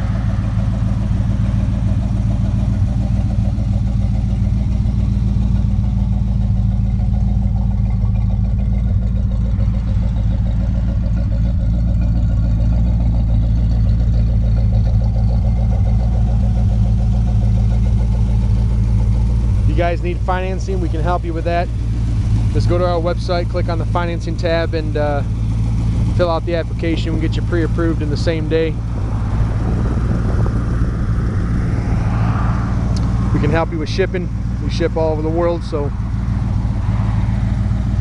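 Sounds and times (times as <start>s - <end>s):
car engine running steadily: 0.0s - 38.0s.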